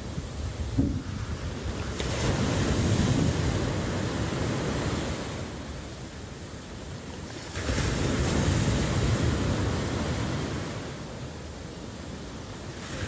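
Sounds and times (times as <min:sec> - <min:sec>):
waves washing on shore: 0:00.0 - 0:13.0.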